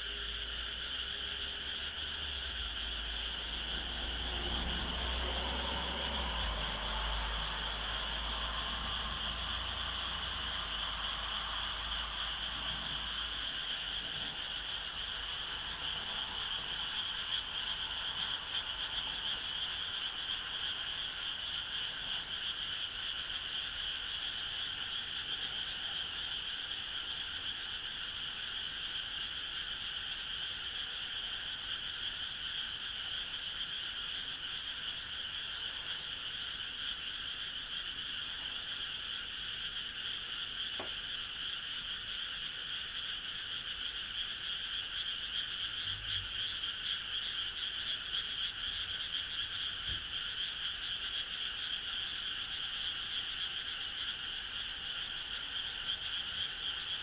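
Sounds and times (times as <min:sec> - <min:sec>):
frog chorus trilling: 0:00.0 - 0:57.0.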